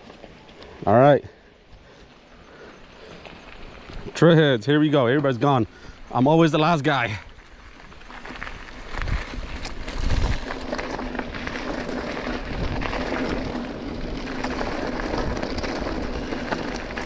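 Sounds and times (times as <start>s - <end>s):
bike tyres crunching on gravel: 0.0s - 17.0s.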